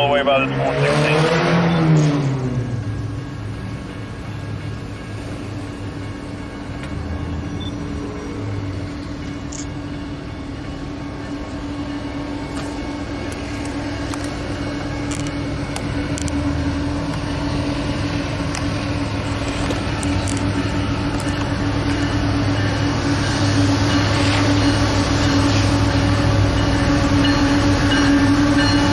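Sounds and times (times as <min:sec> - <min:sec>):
diesel locomotive engine drone: 0:00.0 - 0:28.9.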